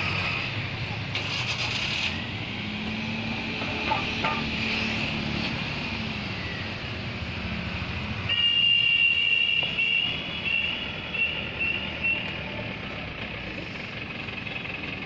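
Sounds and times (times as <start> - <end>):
road traffic engines: 0.0 - 15.0.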